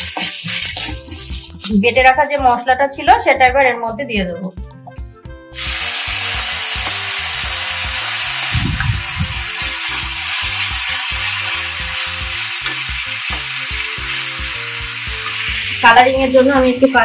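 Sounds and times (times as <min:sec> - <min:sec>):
spice paste sizzling in oil: 0:00.0 - 0:02.4, 0:05.5 - 0:17.0.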